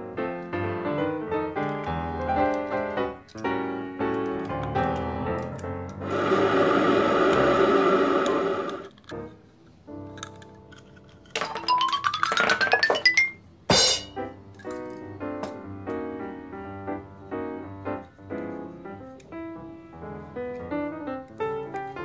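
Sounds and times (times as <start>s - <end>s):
light keyboard tune: 0.0s - 6.4s, 7.2s - 22.0s.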